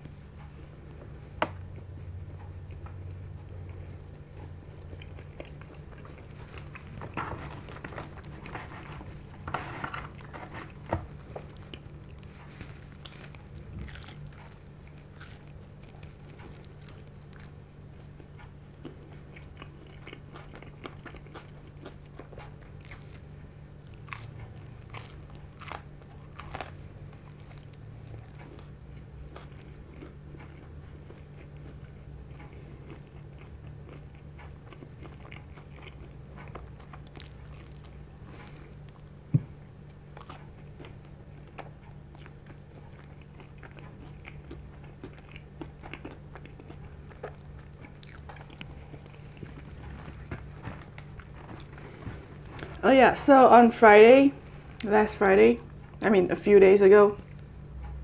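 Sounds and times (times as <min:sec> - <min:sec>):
chewing and crunching pizza: 0:00.0 - 0:58.0
low steady hum: 0:00.0 - 0:58.0.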